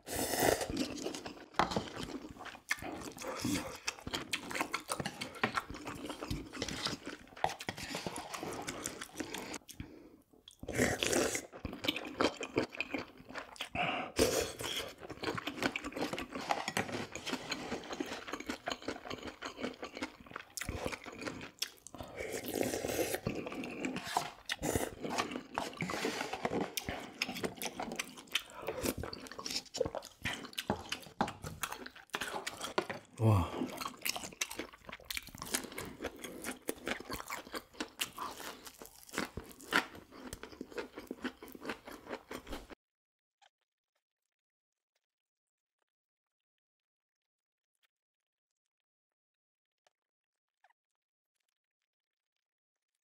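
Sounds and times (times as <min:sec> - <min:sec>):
person chewing and crunching: 0:00.0 - 0:42.8.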